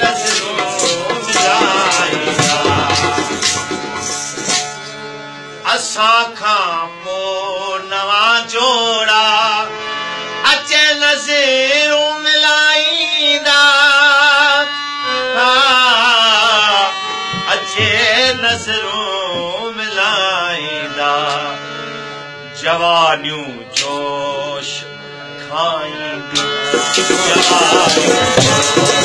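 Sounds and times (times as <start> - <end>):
man singing: 0.0 - 3.7, 5.6 - 9.8, 10.4 - 21.8, 22.6 - 29.0
harmonium: 0.0 - 29.0.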